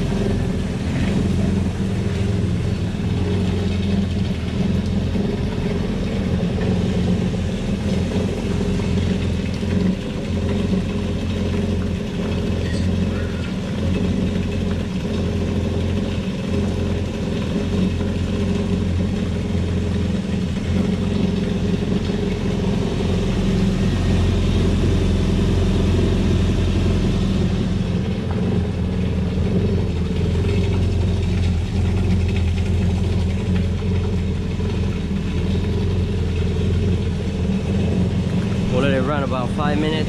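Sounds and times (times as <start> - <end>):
garden hose running water: 0.0 - 40.0
jet ski engine idling: 0.0 - 40.0.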